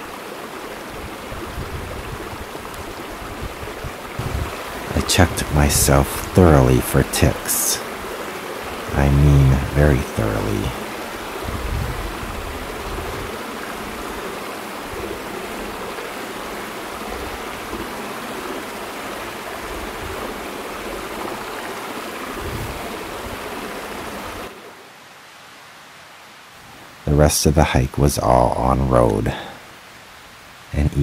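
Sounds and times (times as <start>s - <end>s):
creek water flowing: 0.0s - 31.0s
quiet even hiss: 0.0s - 31.0s.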